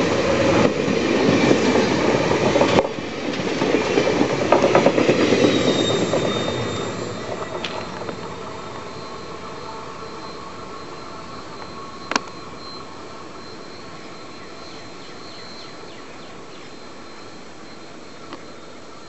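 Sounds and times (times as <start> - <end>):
distant train rumble: 0.0 - 19.0.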